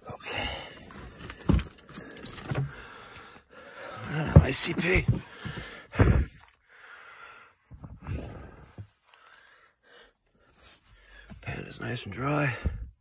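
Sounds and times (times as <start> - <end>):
man breathing heavily: 0.0 - 11.4, 12.4 - 13.0.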